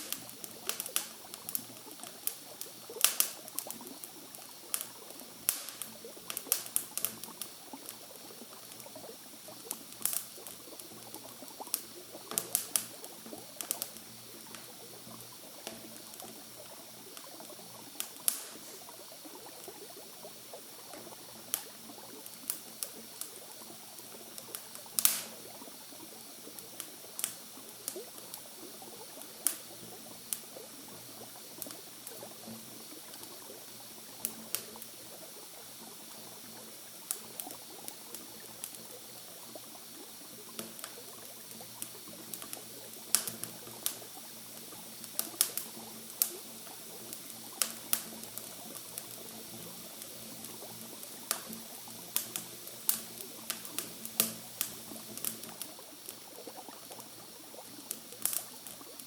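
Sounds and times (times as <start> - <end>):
campfire crackling: 0.0 - 59.0
steady soft hiss: 0.0 - 59.0.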